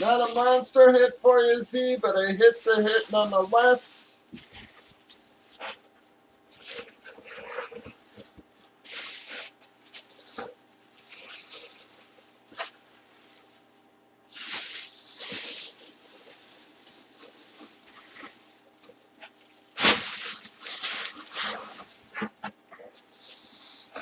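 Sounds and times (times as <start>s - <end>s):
plastic bag rustling and crinkling: 0.0s - 24.0s.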